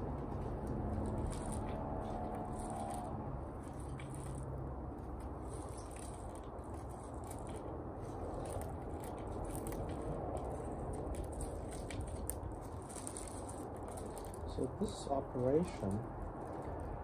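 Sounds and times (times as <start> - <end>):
soil scraping and crackling: 0.0 - 17.0.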